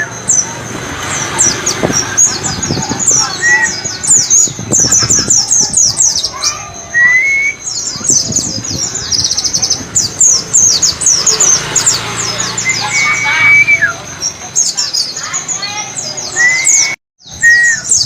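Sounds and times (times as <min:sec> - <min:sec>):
bird song high thin chirps: 0:01.2 - 0:18.0.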